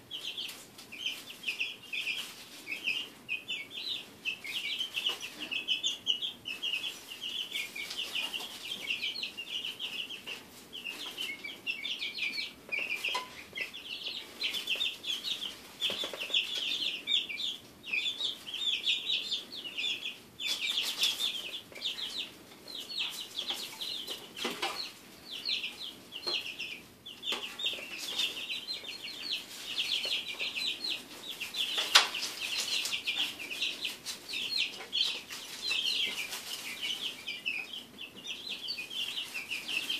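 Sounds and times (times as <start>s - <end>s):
chicks peeping: 0.0s - 39.9s
chicks scratching in wood shavings: 0.0s - 39.9s.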